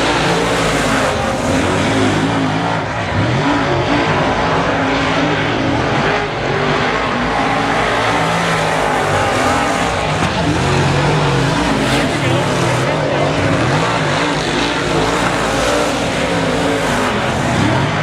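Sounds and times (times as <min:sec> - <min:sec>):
race car engines: 0:00.0 - 0:18.0.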